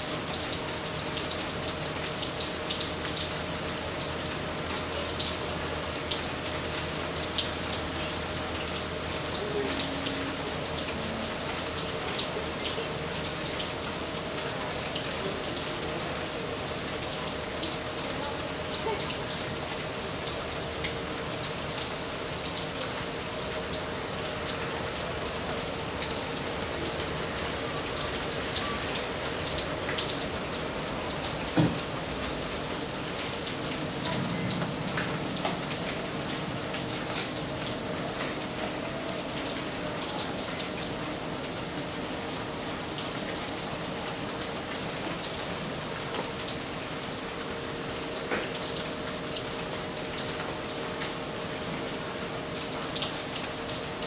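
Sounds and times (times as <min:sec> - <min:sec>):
rain on foliage and pavement: 0:00.0 - 0:54.0.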